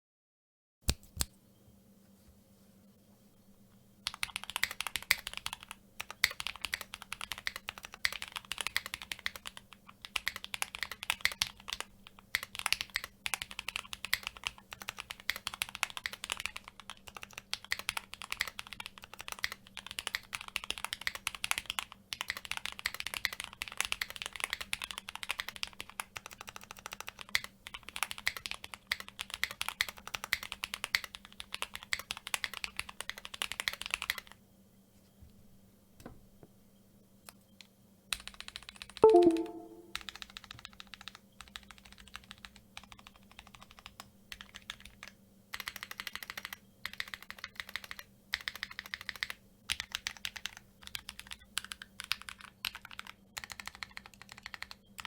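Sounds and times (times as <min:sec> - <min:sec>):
mechanical keyboard typing: 0:04.0 - 0:34.4, 0:38.1 - 0:55.0.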